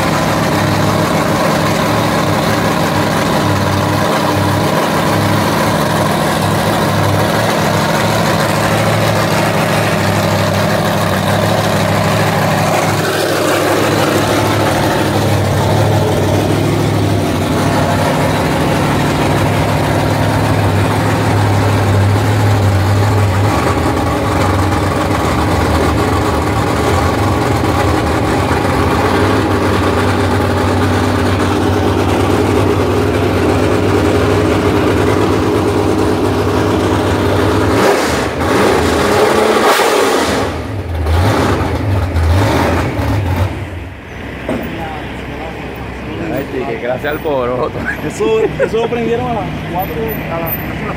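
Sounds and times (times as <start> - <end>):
large vehicle engine idling: 0.0 - 39.4, 40.4 - 50.9.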